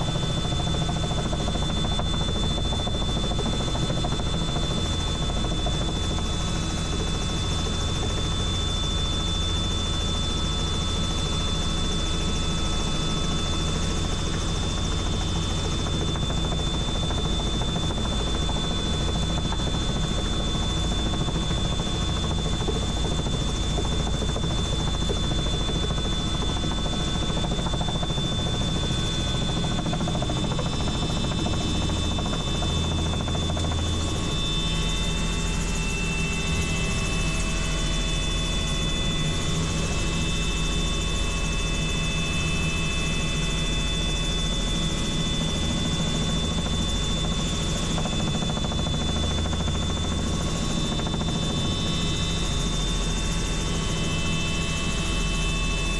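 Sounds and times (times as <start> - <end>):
helicopter rotor and turbine din: 0.0 - 55.9.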